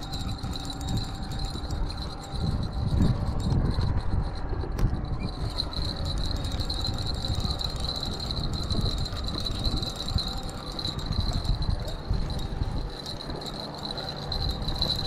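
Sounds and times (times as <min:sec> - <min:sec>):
fishing reel whirring: 0:00.0 - 0:15.0
wind rumbling on microphone: 0:00.0 - 0:15.0.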